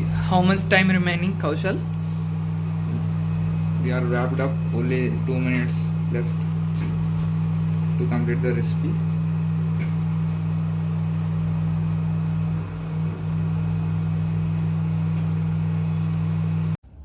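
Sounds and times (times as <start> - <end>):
low hum of a motor: 0.0 - 17.0.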